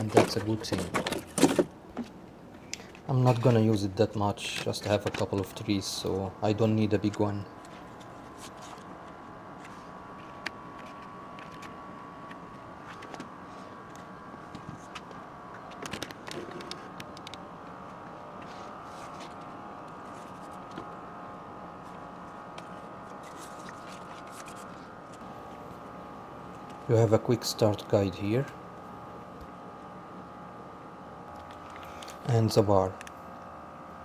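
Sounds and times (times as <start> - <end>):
background hum with faint whine: 0.0 - 34.0.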